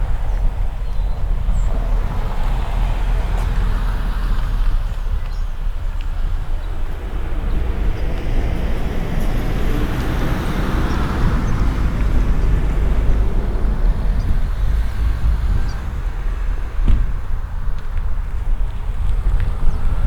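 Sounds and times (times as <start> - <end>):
car passing: 0.0 - 20.0.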